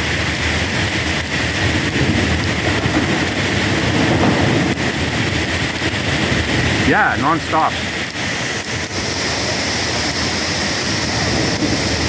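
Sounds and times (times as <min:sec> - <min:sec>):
heavy rain pouring: 0:00.0 - 0:12.0
thunder rumbling: 0:00.0 - 0:12.0.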